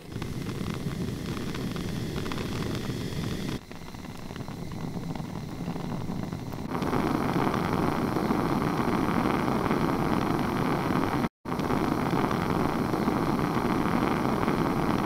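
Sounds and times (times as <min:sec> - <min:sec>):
bunsen burner flame roaring: 0:00.0 - 0:15.0.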